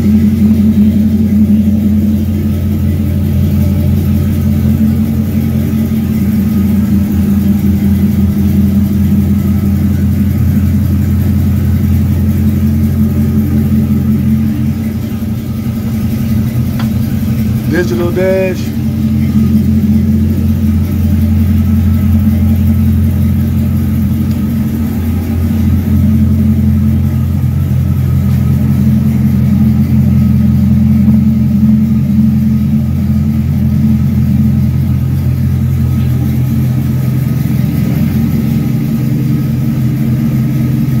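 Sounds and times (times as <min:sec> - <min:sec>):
pickup truck engine idling: 0:00.0 - 0:41.0.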